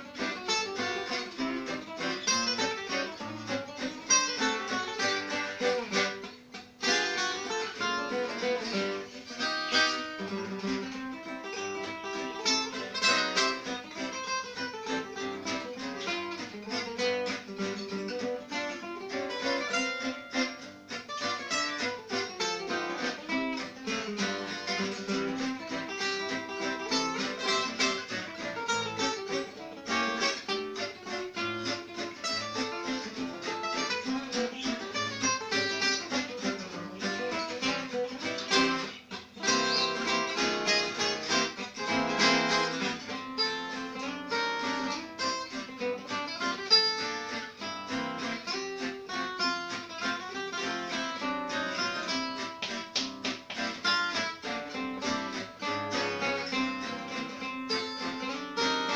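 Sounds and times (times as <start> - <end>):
acoustic guitars playing waltz: 0.0 - 58.9.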